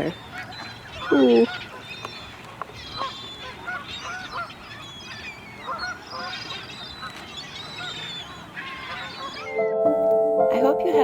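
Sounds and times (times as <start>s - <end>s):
flock of waterbirds calling: 0.0s - 9.7s.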